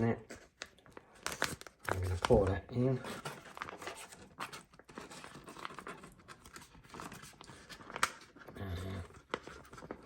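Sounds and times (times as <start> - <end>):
foil pouch crinkling: 0.0 - 10.0.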